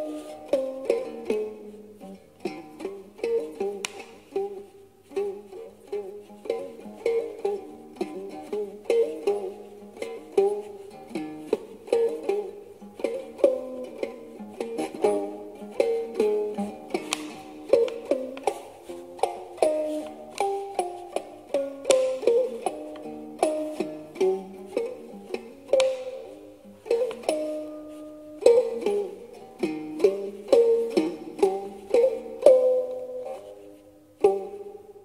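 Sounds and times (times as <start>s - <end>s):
plucked zither melody: 0.0s - 35.0s.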